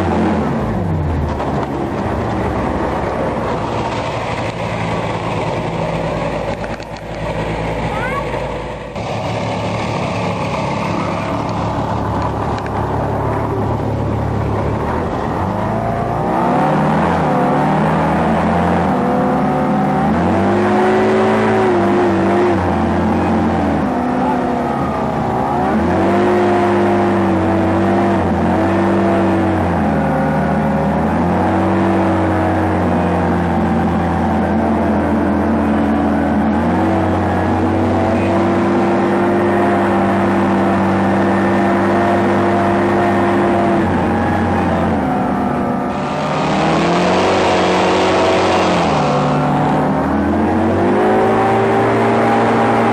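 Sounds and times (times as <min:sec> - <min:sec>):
hovercraft engine running: 0:00.0 - 0:52.9.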